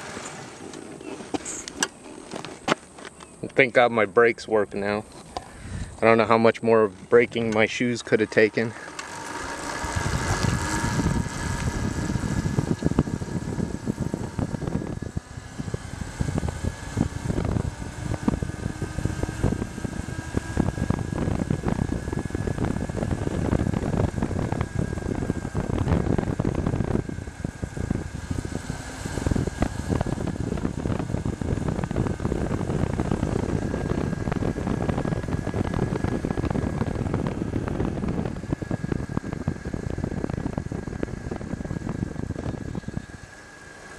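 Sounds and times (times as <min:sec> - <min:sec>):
wind buffeting microphone: 0:04.6 - 0:43.9
electric motor whine: 0:07.0 - 0:43.9.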